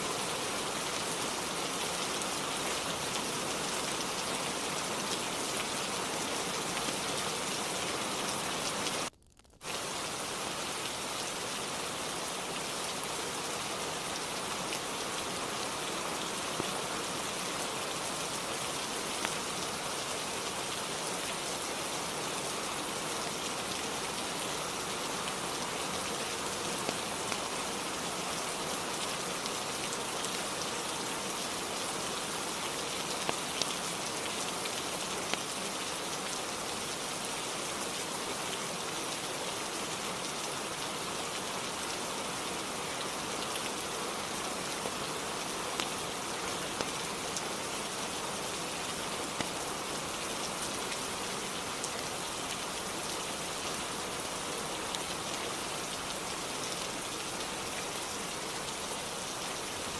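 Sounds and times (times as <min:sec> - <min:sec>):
rain on a roof: 0:00.0 - 0:59.9.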